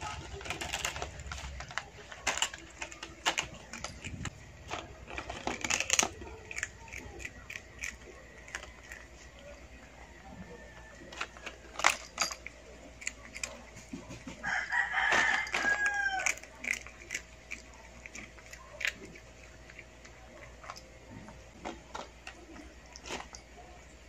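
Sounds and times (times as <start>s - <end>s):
kitten crunching chips: 0.0s - 24.0s.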